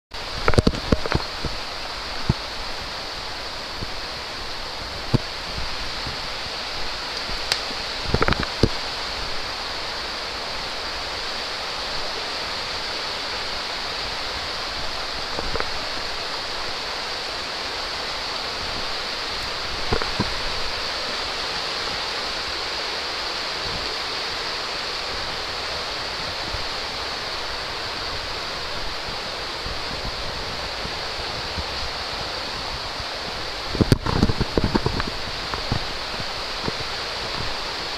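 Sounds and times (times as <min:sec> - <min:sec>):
river rapids rushing: 0:00.2 - 0:37.9.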